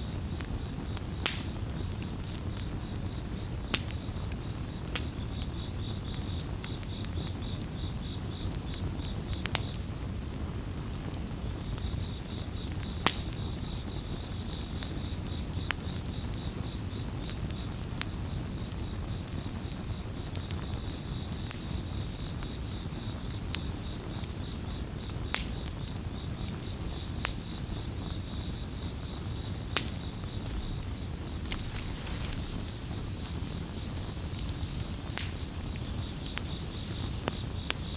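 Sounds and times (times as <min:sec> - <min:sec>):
campfire crackling and popping: 0:00.0 - 0:37.9
crickets chirping: 0:00.0 - 0:37.9.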